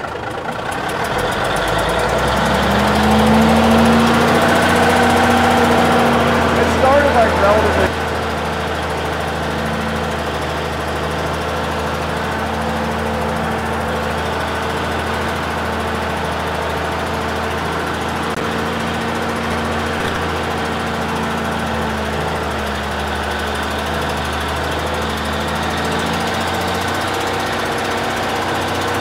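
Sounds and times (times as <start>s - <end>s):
truck diesel engine running: 0.0s - 29.0s.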